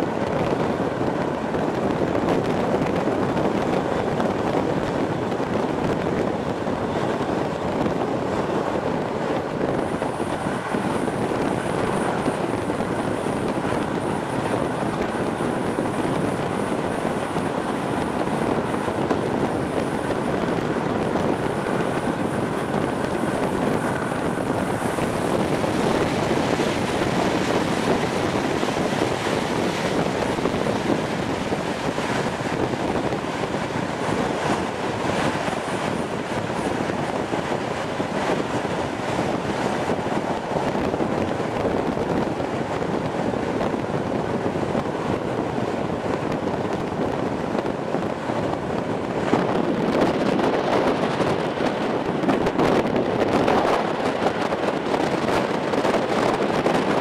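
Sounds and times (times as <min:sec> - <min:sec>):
train wheels rumbling on rails: 0:00.0 - 0:57.0
wind rushing over microphone: 0:00.0 - 0:57.0.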